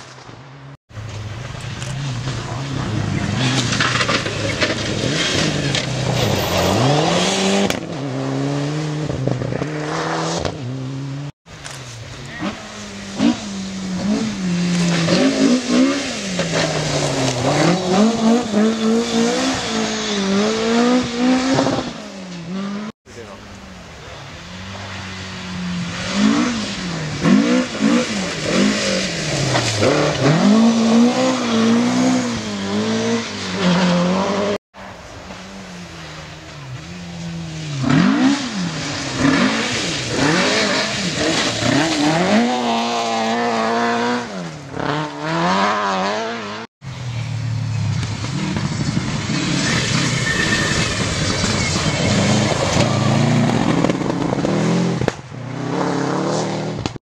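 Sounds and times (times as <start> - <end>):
rally car engines revving: 1.1 - 57.0.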